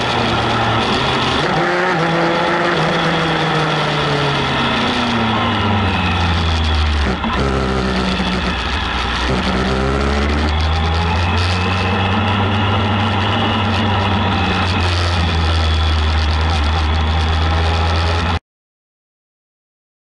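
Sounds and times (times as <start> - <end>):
motorcycle engine at low revs: 0.0 - 18.4.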